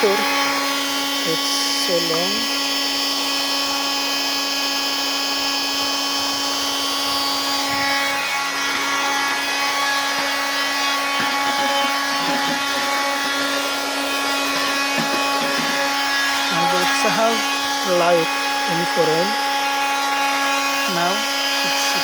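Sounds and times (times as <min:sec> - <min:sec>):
car vacuum cleaner whining: 0:00.0 - 0:22.0.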